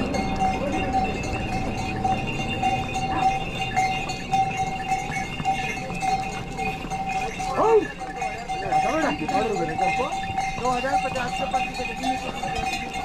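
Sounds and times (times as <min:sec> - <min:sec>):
hooves clip-clopping on stone: 0:00.0 - 0:13.0
steady ringing tone: 0:00.0 - 0:13.0.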